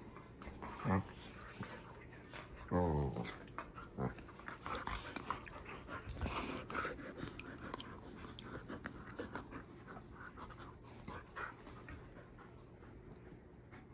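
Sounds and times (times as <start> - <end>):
dog panting: 0.0 - 13.9.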